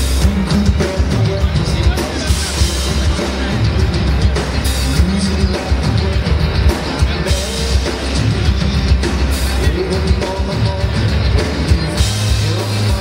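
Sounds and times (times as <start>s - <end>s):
drum kit beating: 0.0s - 13.0s
man singing: 0.0s - 13.0s.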